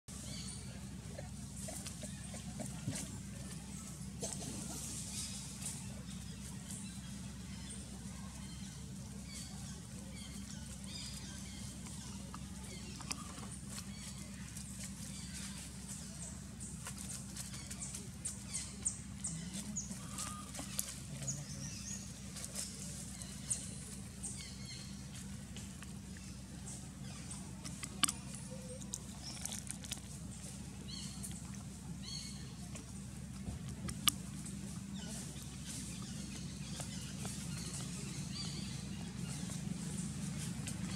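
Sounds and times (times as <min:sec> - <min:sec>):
steady low hum: 0:00.1 - 0:40.9
dry leaves crackling and rustling: 0:02.7 - 0:40.9.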